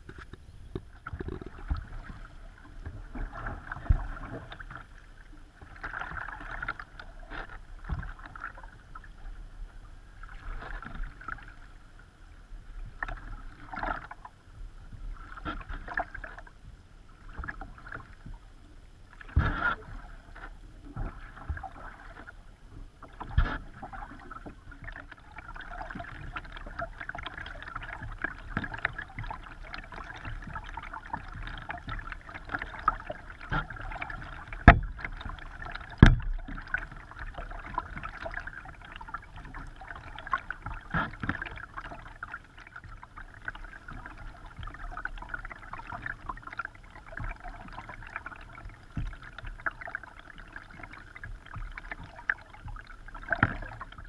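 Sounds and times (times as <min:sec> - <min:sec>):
paddle splashing water: 0:00.0 - 0:54.0.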